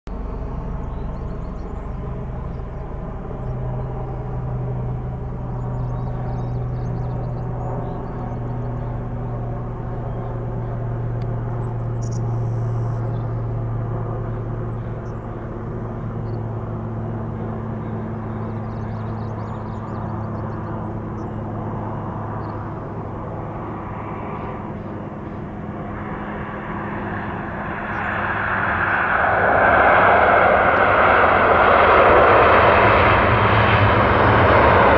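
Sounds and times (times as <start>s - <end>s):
aircraft engine noise: 0.1s - 34.9s
turboprop aircraft propeller hum: 0.1s - 34.9s.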